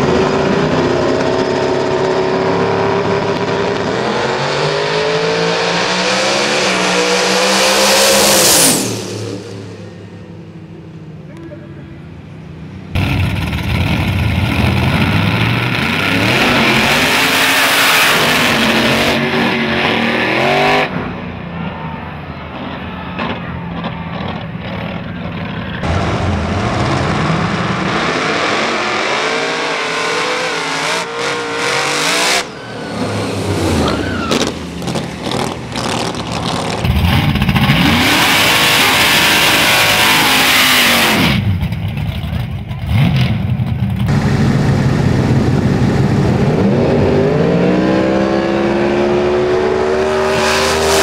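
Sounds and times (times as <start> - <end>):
truck engines revving and launching: 0.0 - 11.5, 12.2 - 51.0.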